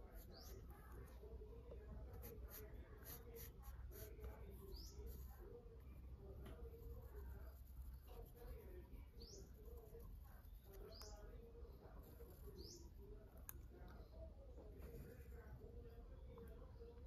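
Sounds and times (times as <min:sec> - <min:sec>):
small bird chirping faintly: 0:00.0 - 0:17.0.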